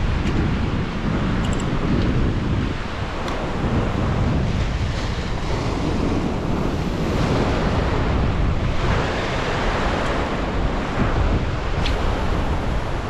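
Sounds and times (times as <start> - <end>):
ocean surf breaking on rocks: 0.0 - 13.0
wind buffeting microphone: 0.0 - 13.0.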